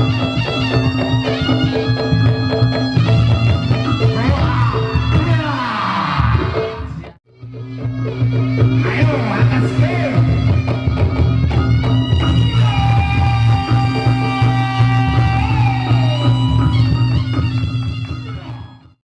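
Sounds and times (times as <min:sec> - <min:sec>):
percussion strokes: 0:00.0 - 0:19.0.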